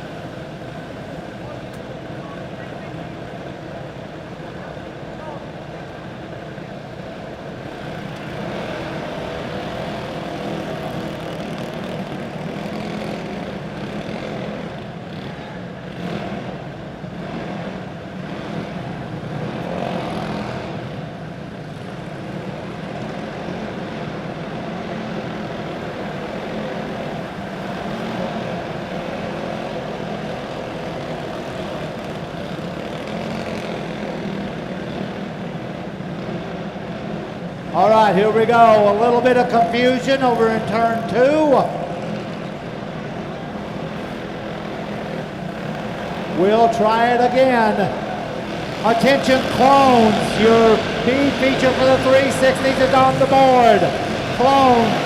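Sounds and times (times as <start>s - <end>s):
kart engines droning: 0.0s - 55.0s.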